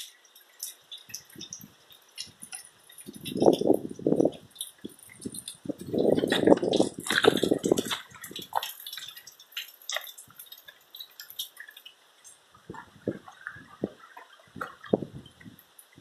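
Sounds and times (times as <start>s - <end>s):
rain drops splashing: 0.0s - 16.0s.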